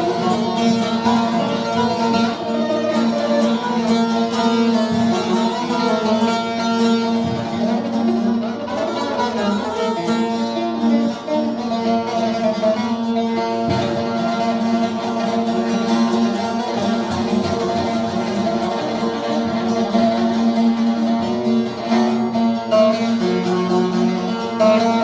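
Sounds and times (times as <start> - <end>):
plucked string music: 0.0 - 25.0.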